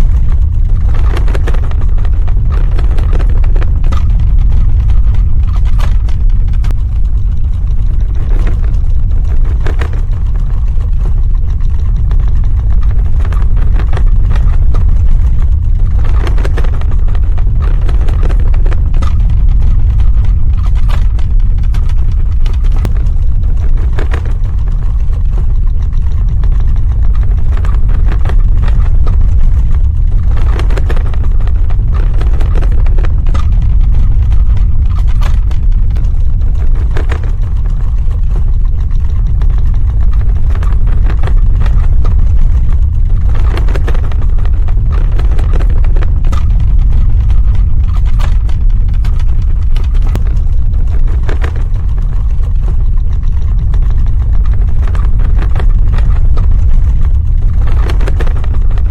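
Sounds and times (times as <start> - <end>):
crackling and rattling: 0.0 - 58.9
deep earthquake rumble: 0.0 - 58.9.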